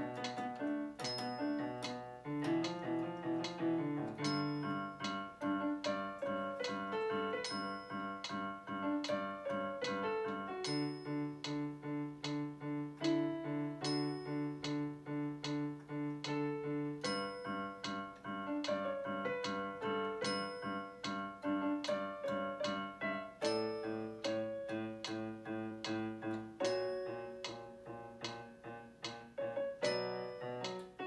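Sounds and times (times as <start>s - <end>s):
slow piano song: 0.0s - 31.0s.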